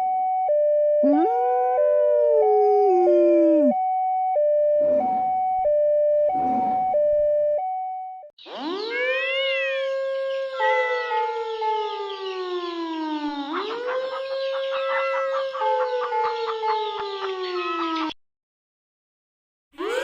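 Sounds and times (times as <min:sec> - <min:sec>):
gliding siren tones: 0:00.0 - 0:18.2
siren wailing: 0:00.0 - 0:18.2, 0:19.8 - 0:20.0.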